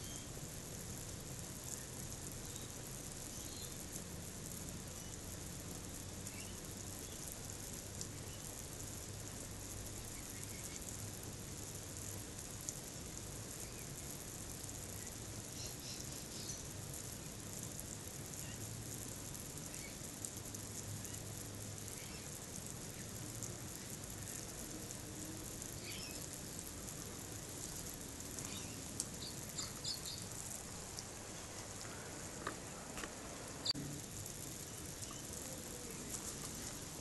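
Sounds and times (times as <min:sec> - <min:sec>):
crickets chirping: 0:00.0 - 0:37.0
low steady hum: 0:00.0 - 0:37.0.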